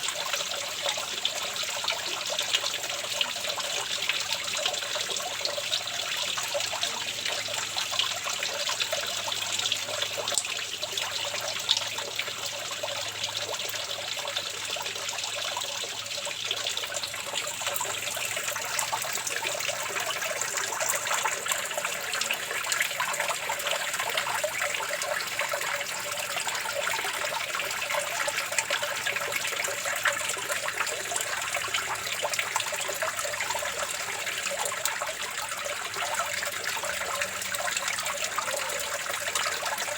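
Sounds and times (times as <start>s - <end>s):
water flowing and trickling: 0.0s - 39.9s.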